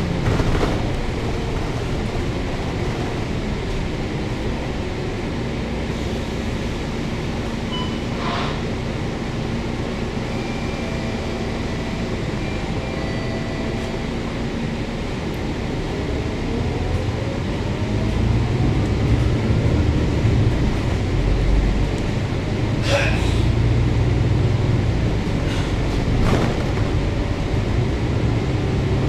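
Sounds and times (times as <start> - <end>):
bus diesel engine rumble: 0.0 - 29.0.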